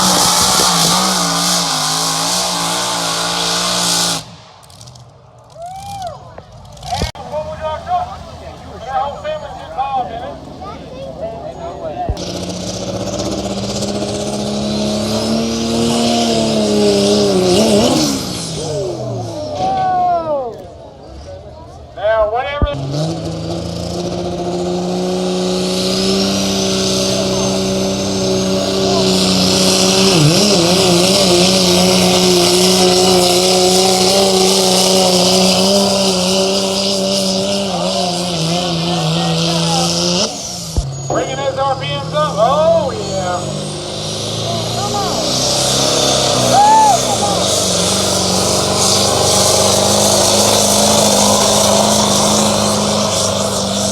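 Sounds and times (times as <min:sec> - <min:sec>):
engine revving hard under load: 0:00.0 - 0:05.1, 0:05.8 - 0:20.1, 0:22.6 - 0:53.9.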